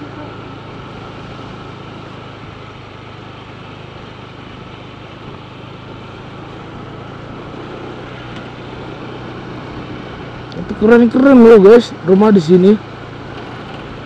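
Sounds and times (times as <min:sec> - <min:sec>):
scooter engine running: 0:00.0 - 0:14.0
wind and road noise: 0:00.0 - 0:14.0.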